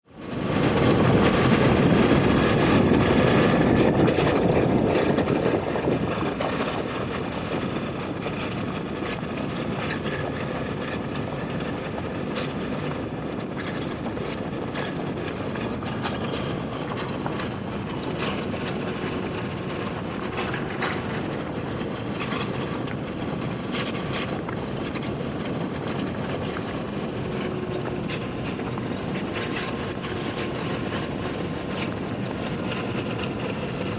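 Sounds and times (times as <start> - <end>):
motorcycle engine and road noise: 0.0 - 33.9.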